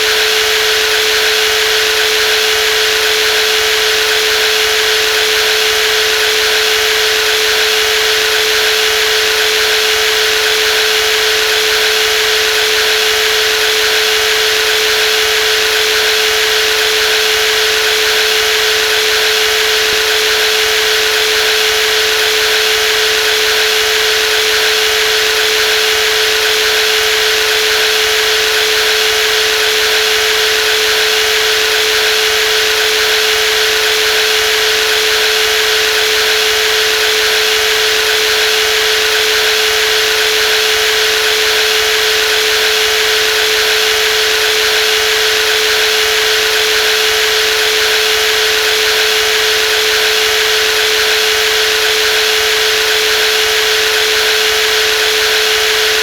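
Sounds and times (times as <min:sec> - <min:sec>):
jigsaw motor whine: 0:00.0 - 0:56.0.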